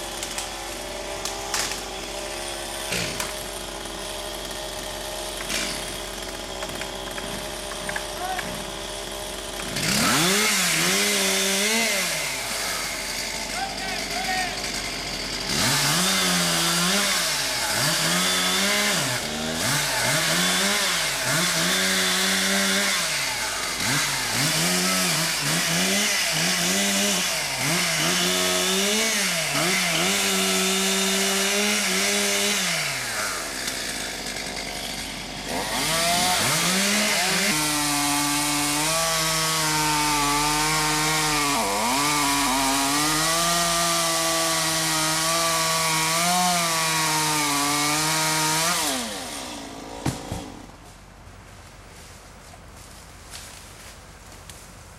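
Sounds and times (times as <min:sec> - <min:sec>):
chainsaw revving and cutting wood: 0:00.0 - 0:51.0.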